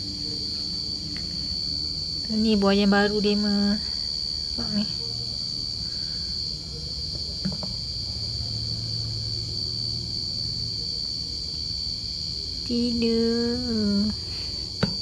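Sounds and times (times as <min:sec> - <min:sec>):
crickets trilling: 0:00.0 - 0:15.0
faint low hum: 0:00.0 - 0:15.0.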